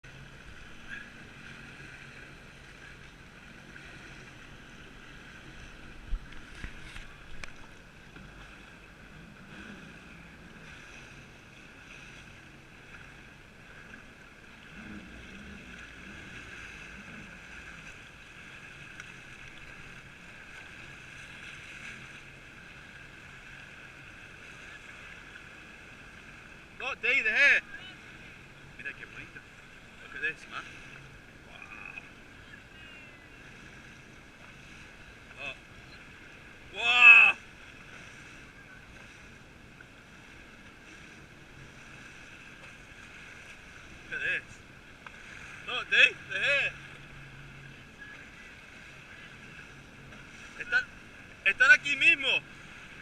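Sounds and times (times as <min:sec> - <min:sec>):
jet ski engine whine: 0:00.0 - 0:53.0.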